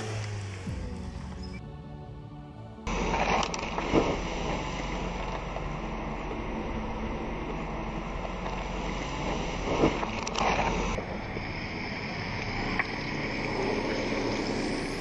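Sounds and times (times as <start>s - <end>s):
engine noise: 0.0s - 15.0s
wind: 0.0s - 15.0s.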